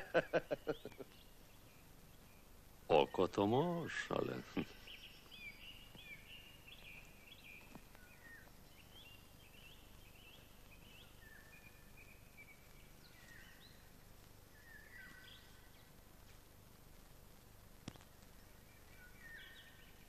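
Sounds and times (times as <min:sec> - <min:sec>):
birds chirping and trilling: 0:00.0 - 0:16.0, 0:17.9 - 0:20.0
low background hiss: 0:00.0 - 0:20.0.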